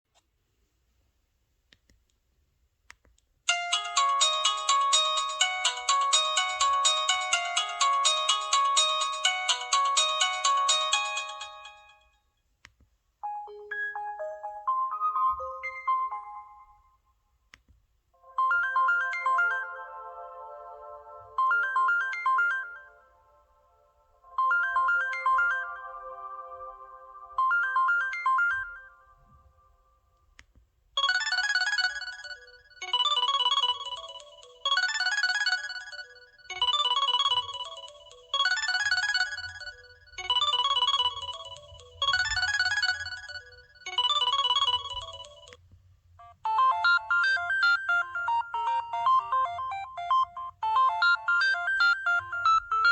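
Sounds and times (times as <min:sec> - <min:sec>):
bright phone ringtone: 0:03.5 - 0:12.2, 0:13.2 - 0:17.0, 0:18.2 - 0:23.4, 0:24.3 - 0:26.5, 0:27.4 - 0:29.3, 0:31.0 - 0:45.6, 0:46.2 - 0:52.9
chiming phone ringtone: 0:03.5 - 0:12.2, 0:13.2 - 0:17.0, 0:18.2 - 0:23.4, 0:24.3 - 0:26.5, 0:27.4 - 0:29.2, 0:31.0 - 0:45.6, 0:46.2 - 0:52.9.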